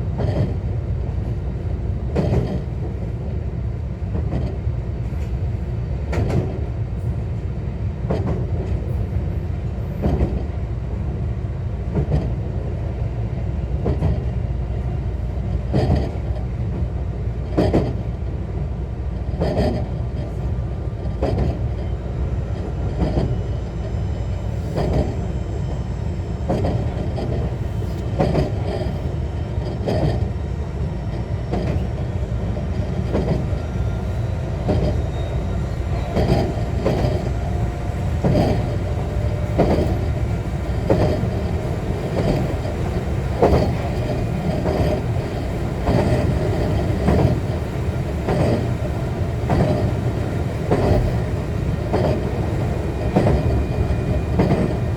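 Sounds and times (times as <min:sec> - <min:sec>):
train running low rumble: 0:00.0 - 0:54.9.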